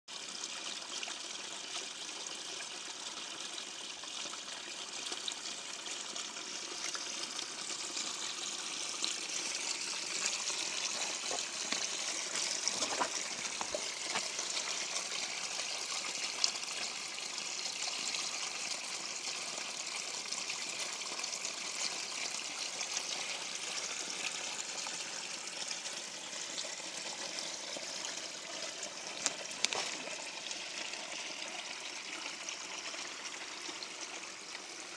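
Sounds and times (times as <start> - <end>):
creek water babbling over stones: 0.2 - 34.9.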